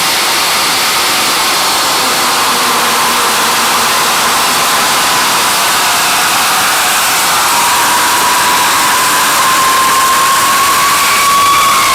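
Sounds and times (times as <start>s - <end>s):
jet engine roaring with whine: 0.0s - 11.9s.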